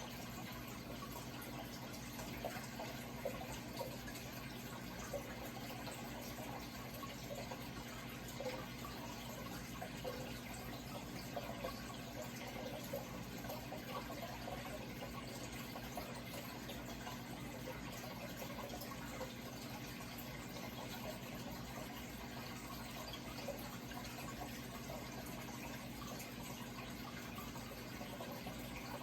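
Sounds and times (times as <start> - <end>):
low steady hum: 0.0 - 29.0
water running and trickling: 0.0 - 29.0.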